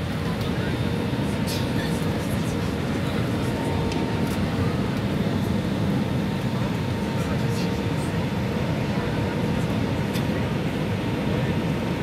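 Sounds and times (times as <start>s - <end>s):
airliner engines droning: 0.0s - 12.0s.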